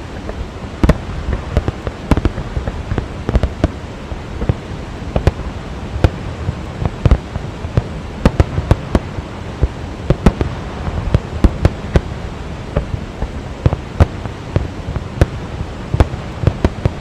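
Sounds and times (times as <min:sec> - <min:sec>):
fireworks bangs: 0:00.0 - 0:17.0
steady rushing noise: 0:00.0 - 0:17.0.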